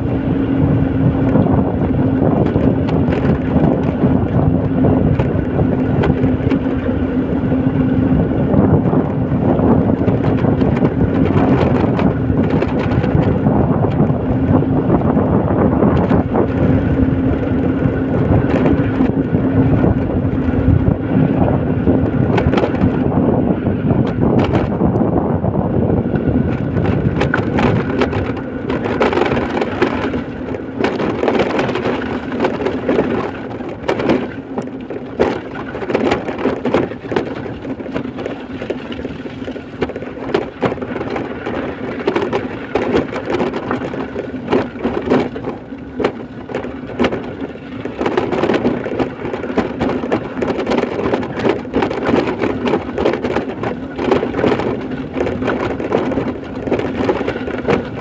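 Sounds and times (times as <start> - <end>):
rattling and crunching on rough road: 0.0 - 58.0
vehicle engine hum: 0.0 - 58.0.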